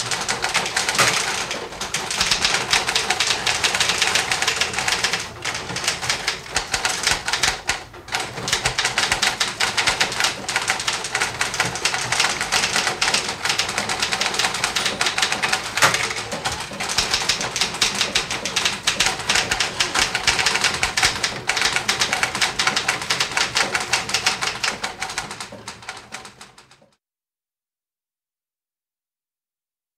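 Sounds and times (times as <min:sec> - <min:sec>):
typewriters clattering: 0:00.0 - 0:26.8.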